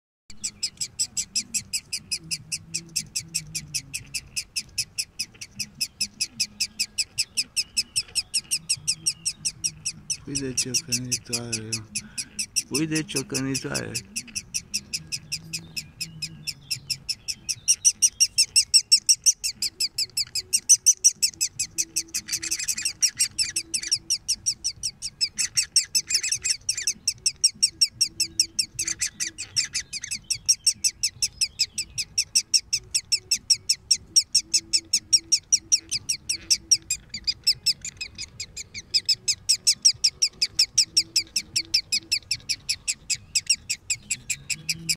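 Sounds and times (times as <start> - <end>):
nestlings high-pitched chirping: 0.3 - 44.9.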